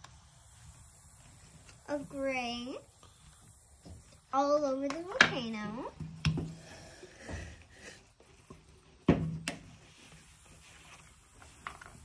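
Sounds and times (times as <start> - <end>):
quiet rustling: 0.0 - 12.0.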